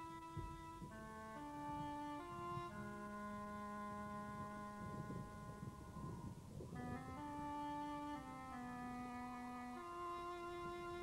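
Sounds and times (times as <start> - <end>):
slow instrumental melody: 0.0 - 11.0.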